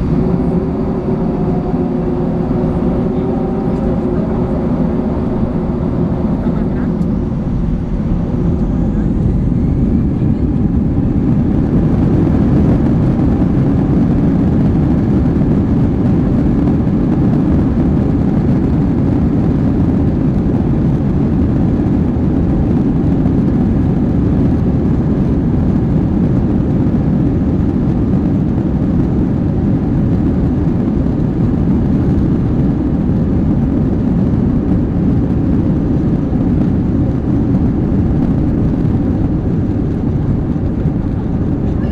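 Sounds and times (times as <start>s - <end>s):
jet engines and rushing air: 0.0s - 41.9s.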